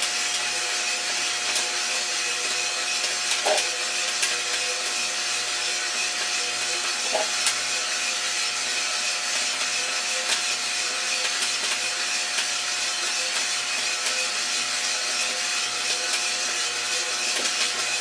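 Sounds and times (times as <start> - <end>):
coffee roaster motor and fan whir: 0.0 - 18.0.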